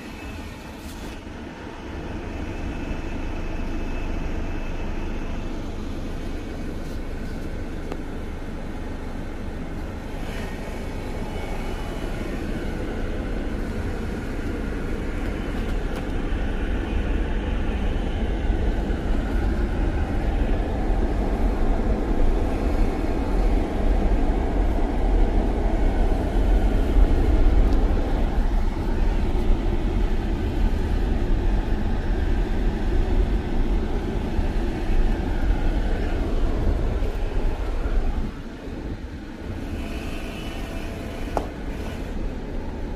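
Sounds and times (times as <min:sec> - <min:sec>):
car engine and tyre rumble: 0:00.0 - 0:42.9.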